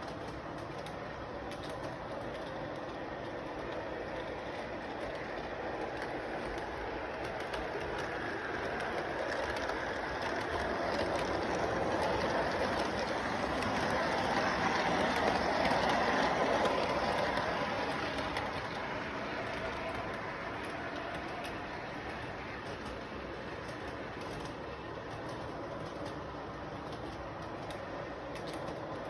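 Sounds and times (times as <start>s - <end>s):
model train rattling on track: 0.0s - 29.0s.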